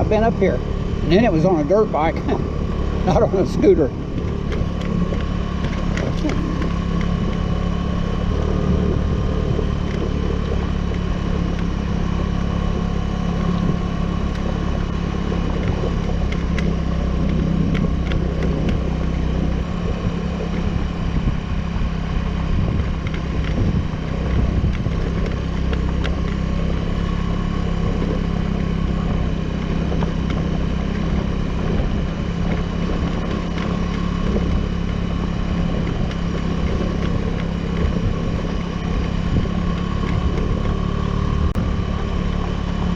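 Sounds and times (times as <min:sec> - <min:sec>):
scooter engine running: 0:00.0 - 0:42.9.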